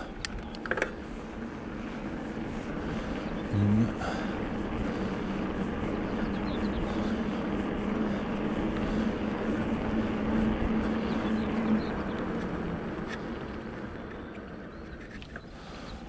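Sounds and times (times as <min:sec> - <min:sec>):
low motor hum: 0:00.0 - 0:16.0
tyres on the track: 0:00.0 - 0:16.0.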